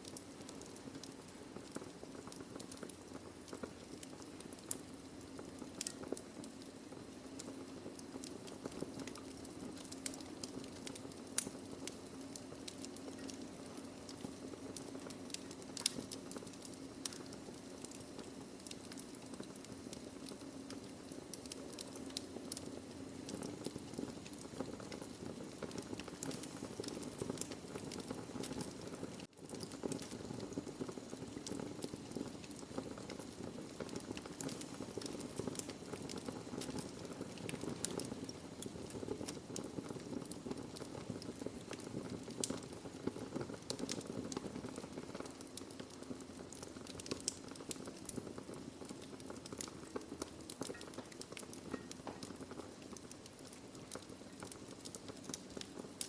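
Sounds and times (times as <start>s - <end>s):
wood logs crackling in fireplace: 0.0s - 56.0s.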